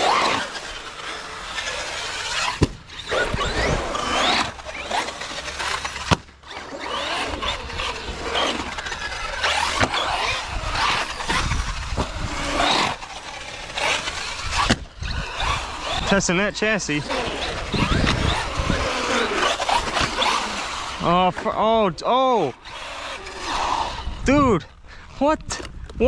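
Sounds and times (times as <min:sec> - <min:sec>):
rc truck motor whining: 0:00.0 - 0:26.0.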